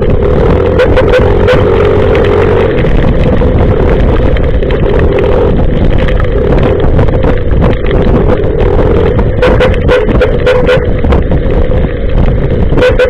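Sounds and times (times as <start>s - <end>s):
motorcycle engine drone: 0.0s - 13.0s
wind noise on microphone: 0.0s - 13.0s
scattered ticks: 0.1s - 12.3s.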